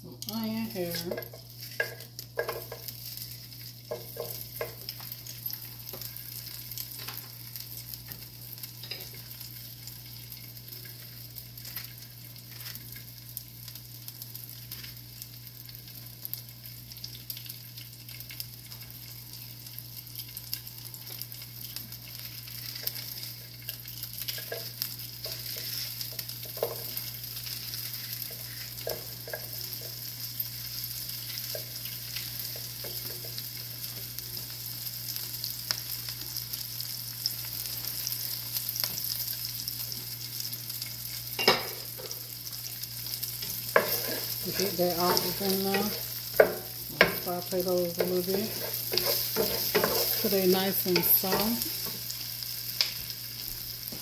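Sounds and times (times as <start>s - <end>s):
onion sizzling in hot oil: 0.0s - 54.0s.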